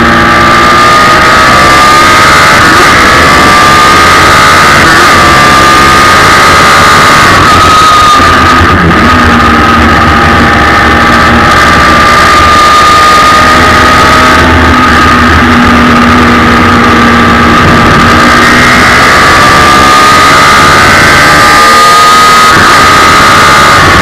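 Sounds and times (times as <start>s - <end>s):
motorcycle engine at high revs: 0.0s - 24.0s.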